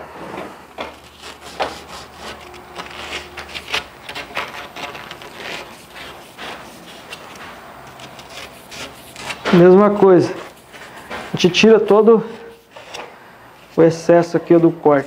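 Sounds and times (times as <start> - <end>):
sandpaper scraping plastic pipe: 0.8 - 13.0.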